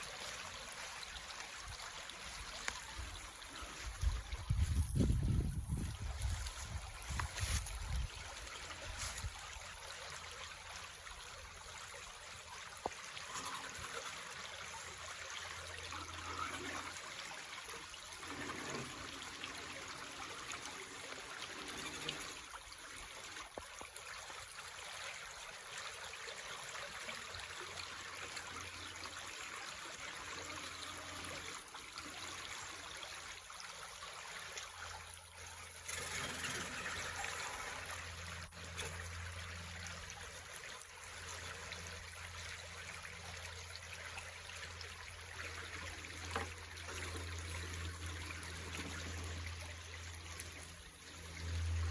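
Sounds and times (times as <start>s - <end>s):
stream trickling and babbling: 0.0s - 51.9s.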